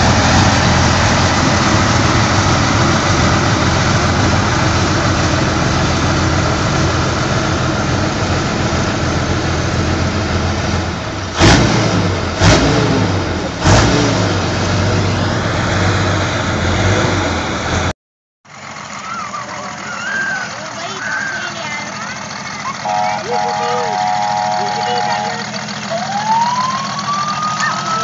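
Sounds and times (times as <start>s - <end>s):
trike engine running and revving: 0.0s - 17.9s, 18.5s - 28.0s.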